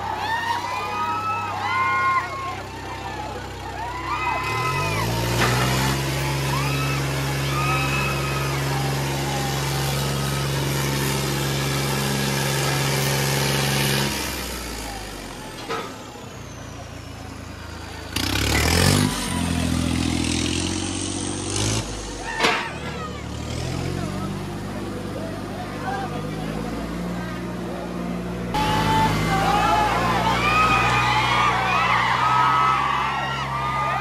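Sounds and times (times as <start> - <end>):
crowd noise: 0.0 - 34.0
tractor diesel engine revving: 0.0 - 34.0.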